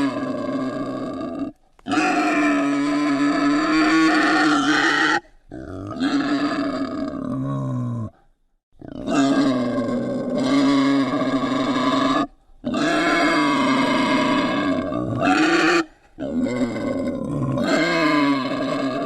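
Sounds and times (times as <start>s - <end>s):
wild boar squealing: 0.0s - 7.6s, 8.9s - 19.0s.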